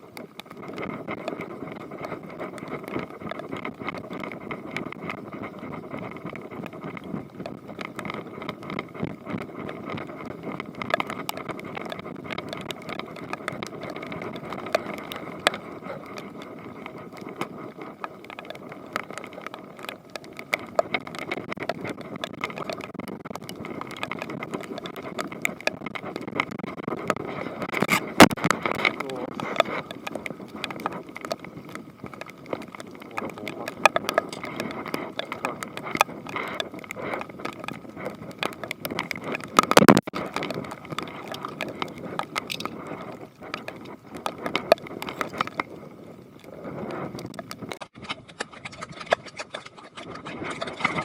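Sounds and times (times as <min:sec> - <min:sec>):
small clicks and ticks: 0:00.0 - 0:51.0.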